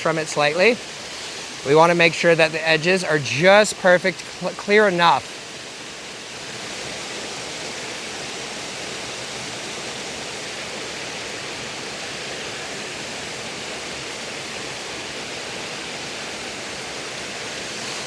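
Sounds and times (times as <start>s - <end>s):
waterfall running: 0.0s - 18.0s.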